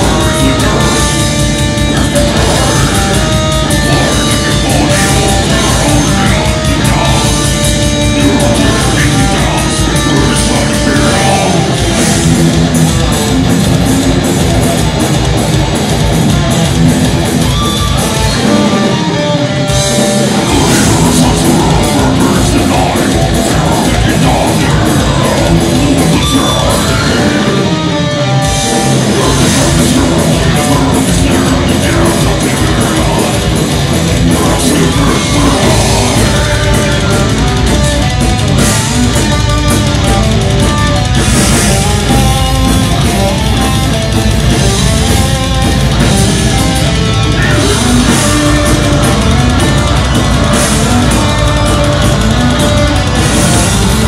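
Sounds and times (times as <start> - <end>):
heavy metal band playing: 0.0 - 54.0.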